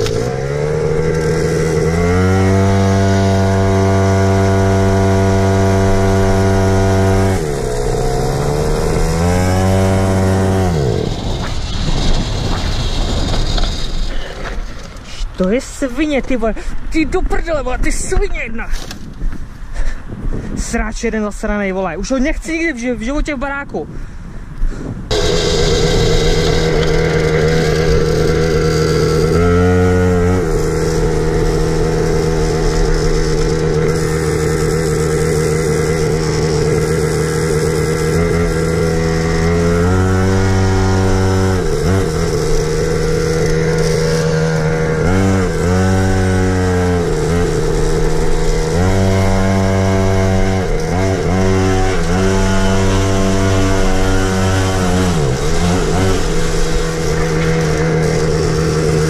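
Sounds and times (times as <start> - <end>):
small motorbike engine revving: 0.0 - 15.2, 25.1 - 59.0.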